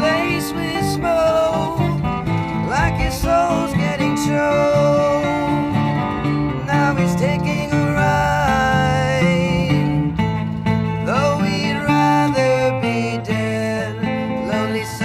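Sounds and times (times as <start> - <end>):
country band with twangy guitars: 0.0 - 15.0.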